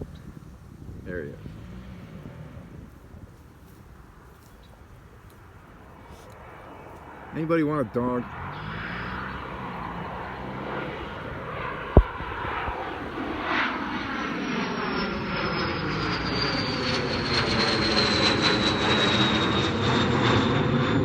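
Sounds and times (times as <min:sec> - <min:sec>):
jet aircraft engine: 0:00.0 - 0:03.4, 0:05.4 - 0:21.0
high engine whine: 0:00.0 - 0:21.0.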